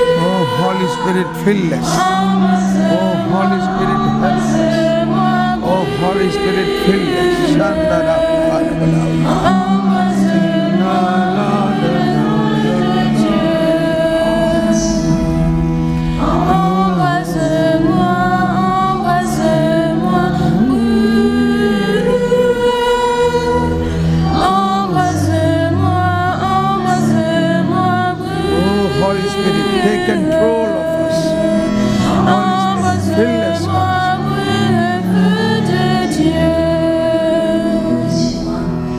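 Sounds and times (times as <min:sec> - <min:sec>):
group singing a chant: 0:00.0 - 0:38.9
musical accompaniment: 0:00.0 - 0:38.9.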